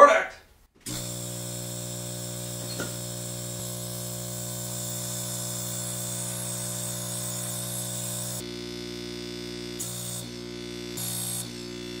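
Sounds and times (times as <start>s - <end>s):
air compressor buzzing hum: 0.8s - 12.0s.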